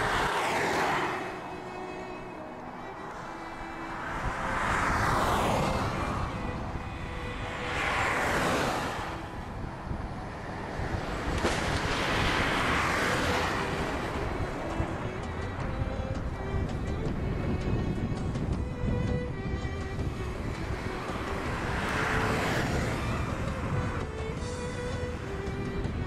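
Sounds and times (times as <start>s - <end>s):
low road and wind rumble: 0.0s - 26.0s
vehicles passing: 0.0s - 26.0s.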